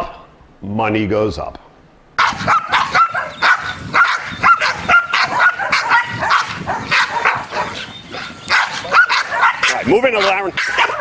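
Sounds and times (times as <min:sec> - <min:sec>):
dogs barking aggressively: 0:02.2 - 0:11.0.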